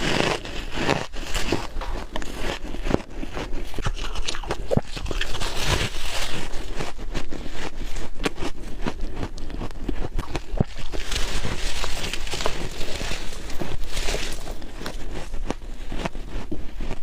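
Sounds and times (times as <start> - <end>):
chewing crunchy frost: 0.0 - 17.0.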